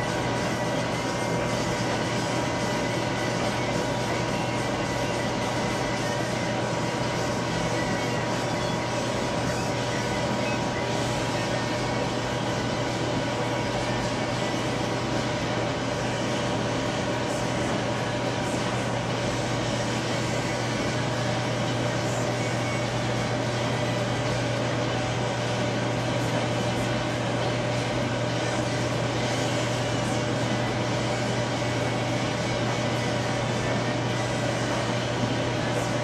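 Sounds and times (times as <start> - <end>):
mechanical hum with low drone: 0.0 - 36.0.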